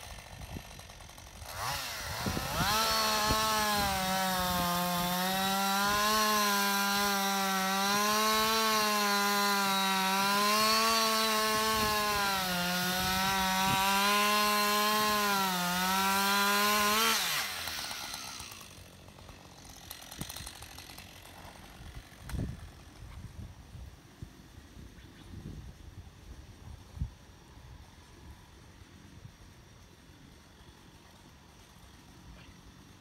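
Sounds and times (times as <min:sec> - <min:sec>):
chainsaw cutting wood: 0:00.0 - 0:23.7, 0:27.8 - 0:33.0.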